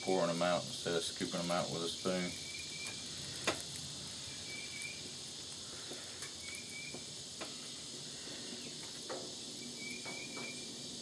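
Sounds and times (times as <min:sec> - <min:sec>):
batter sizzling on griddle: 0:00.0 - 0:11.0.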